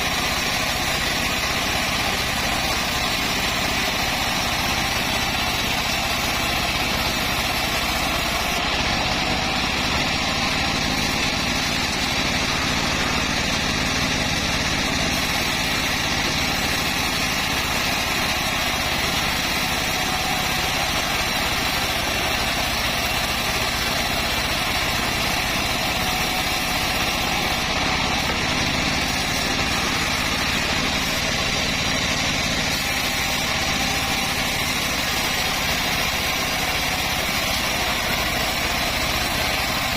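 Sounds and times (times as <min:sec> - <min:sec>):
bandsaw sawmill engine droning: 0:00.0 - 0:39.9.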